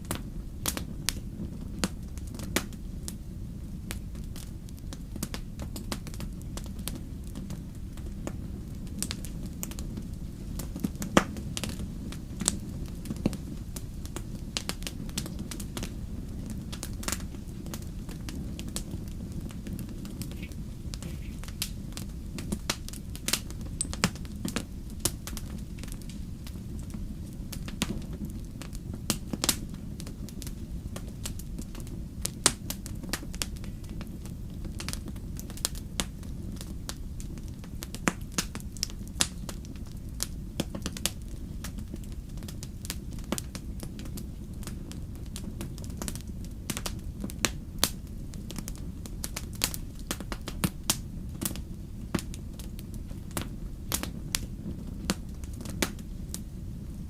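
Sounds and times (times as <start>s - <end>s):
burning logs crackling and popping: 0.0s - 57.0s
wood fire rumbling: 0.0s - 57.0s.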